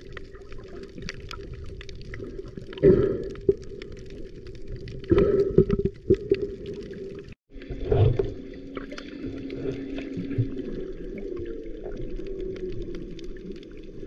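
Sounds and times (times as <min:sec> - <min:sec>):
underwater low hum: 0:00.0 - 0:14.0
underwater splashing and bubbling: 0:00.0 - 0:14.0.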